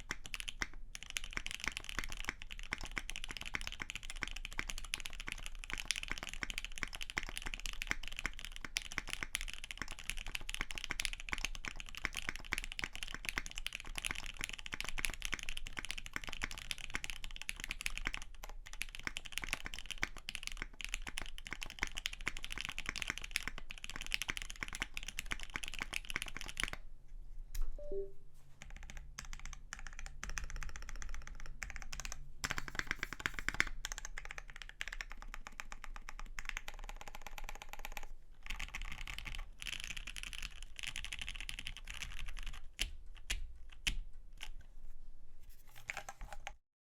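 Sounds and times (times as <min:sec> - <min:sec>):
fast keyboard typing: 0:00.0 - 0:26.8, 0:27.8 - 0:44.6.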